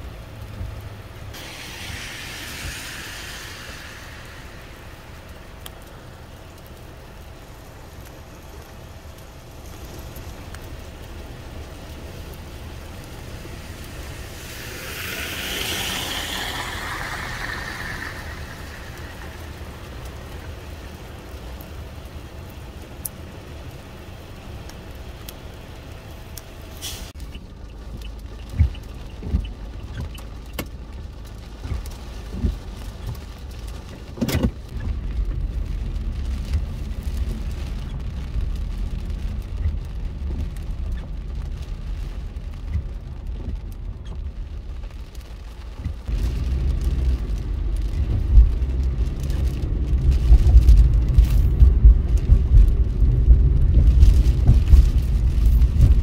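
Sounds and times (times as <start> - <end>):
car tyres hissing on wet road: 0.0 - 56.0
rain: 0.0 - 56.0
traffic: 0.0 - 56.0.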